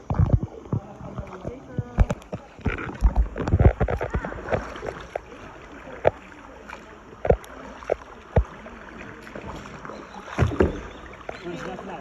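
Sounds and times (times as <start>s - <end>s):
paddle knocks and splashes: 0.0s - 12.0s
water wash: 0.0s - 12.0s
wind: 0.0s - 12.0s.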